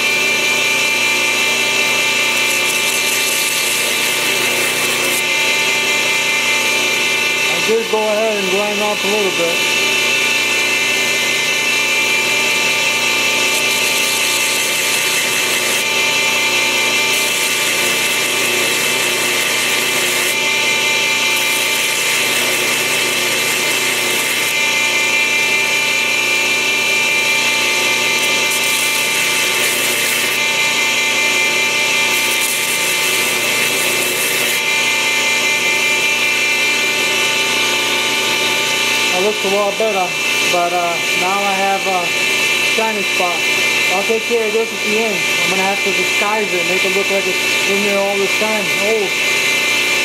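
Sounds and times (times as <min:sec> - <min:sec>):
belt grinder motor whine: 0:00.0 - 0:50.0.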